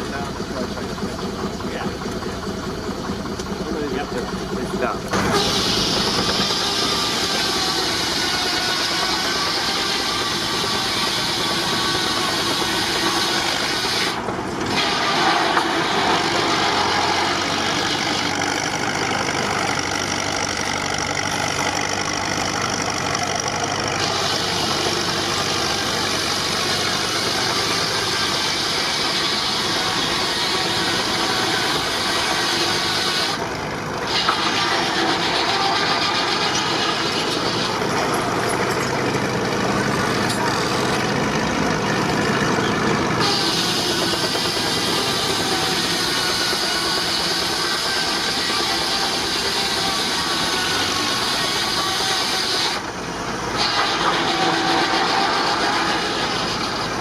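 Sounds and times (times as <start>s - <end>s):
sawmill running: 0.0s - 57.0s.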